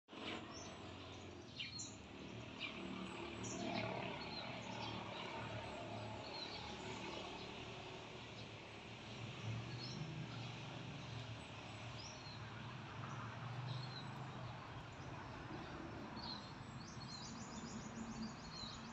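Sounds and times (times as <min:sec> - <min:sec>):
small birds chirping: 0:00.1 - 0:18.9.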